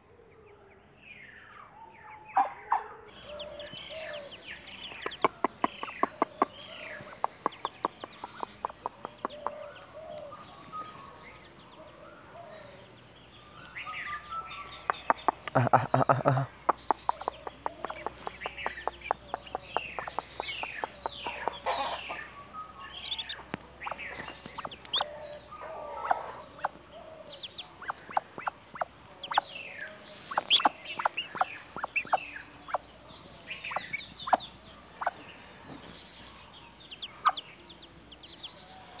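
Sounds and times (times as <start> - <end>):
ducklings peeping: 3.1 - 39.0.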